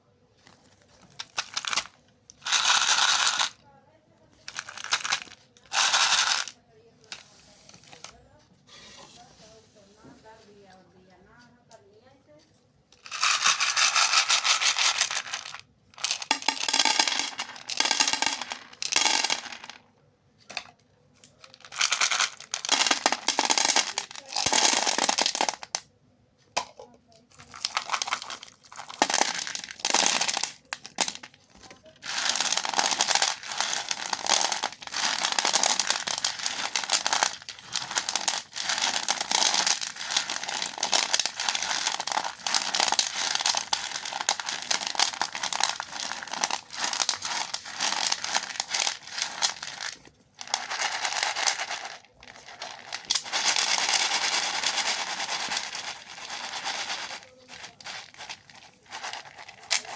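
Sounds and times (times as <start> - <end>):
candy wrappers crinkling: 0.4 - 3.6, 4.4 - 8.2, 13.0 - 19.8, 21.3 - 25.9, 27.3 - 59.9.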